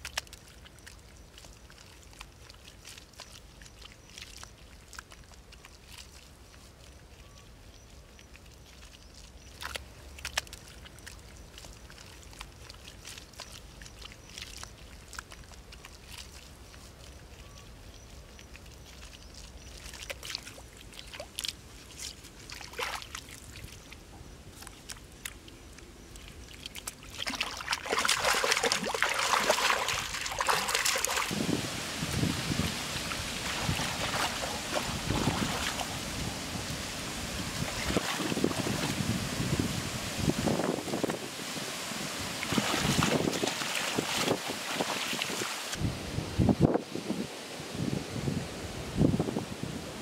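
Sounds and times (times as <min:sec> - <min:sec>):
shallow water splashing: 0:00.0 - 0:07.4, 0:08.0 - 0:45.8
hands patting wet mud: 0:00.0 - 0:41.3, 0:42.3 - 0:45.8.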